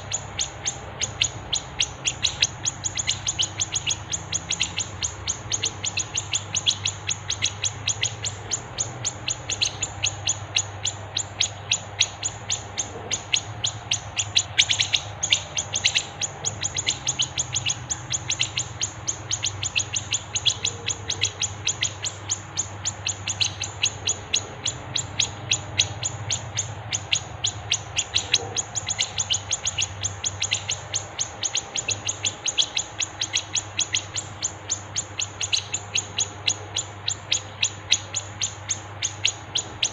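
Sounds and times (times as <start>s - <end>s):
faint low hum: 0.0s - 39.9s
songbirds chirping: 0.0s - 39.9s.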